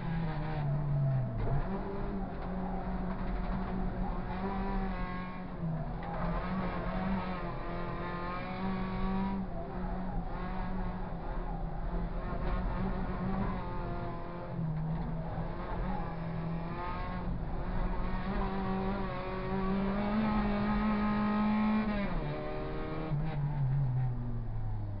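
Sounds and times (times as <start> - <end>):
race car engine at high revs: 0.0 - 25.0
tyre and road noise: 0.0 - 25.0.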